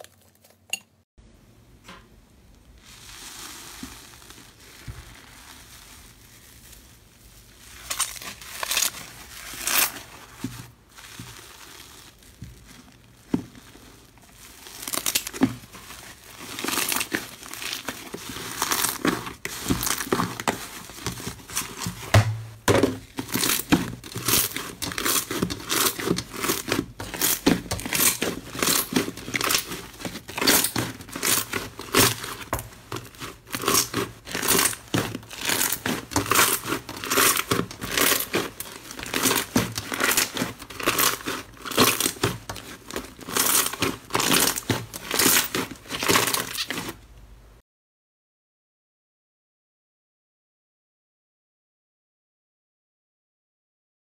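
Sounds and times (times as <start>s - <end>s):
slime crackling and popping: 2.8s - 47.0s.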